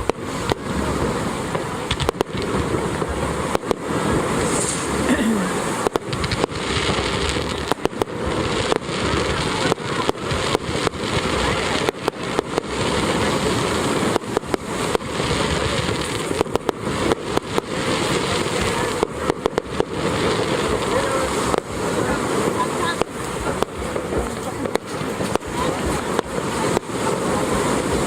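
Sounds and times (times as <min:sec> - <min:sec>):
fireworks bangs: 0:00.0 - 0:28.0
noisy rumble: 0:00.0 - 0:28.0.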